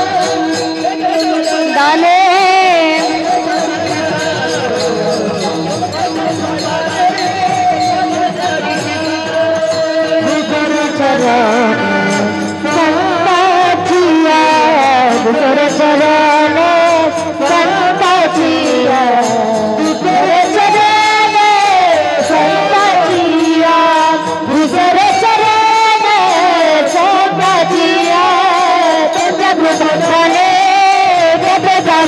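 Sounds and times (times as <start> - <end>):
held accompanying tones: 0.0 - 32.0.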